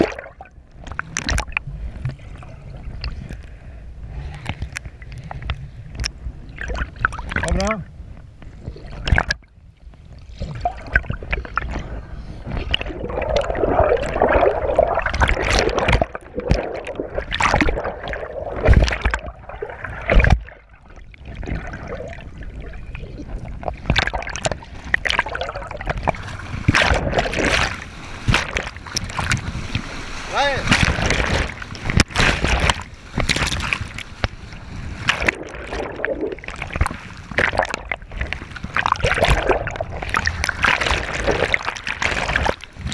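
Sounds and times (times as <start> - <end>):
water sloshing and splashing: 0.0 - 42.9.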